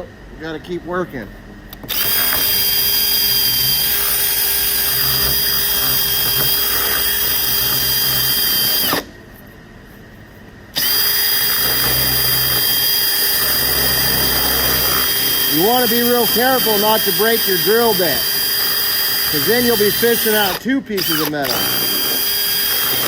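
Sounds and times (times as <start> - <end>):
power drill boring into wood: 1.8 - 9.1, 10.8 - 23.0.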